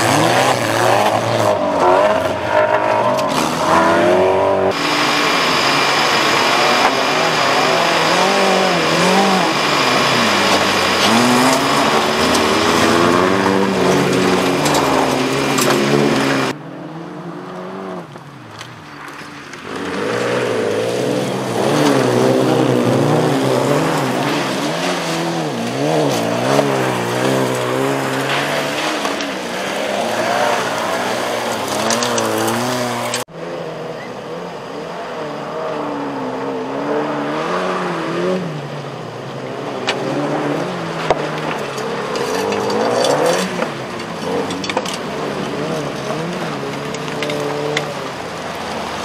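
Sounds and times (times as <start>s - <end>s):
racing car engines revving: 0.0s - 49.0s.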